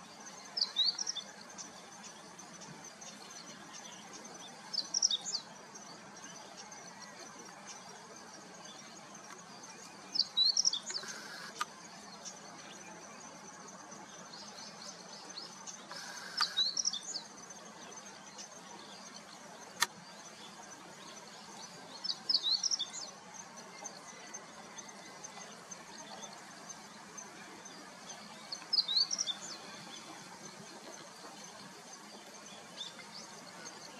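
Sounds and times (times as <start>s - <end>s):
bunting singing: 0.0s - 33.9s.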